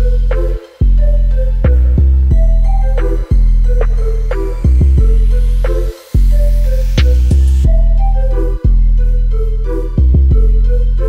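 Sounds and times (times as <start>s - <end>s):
deep sustained bass line: 0.0s - 11.0s.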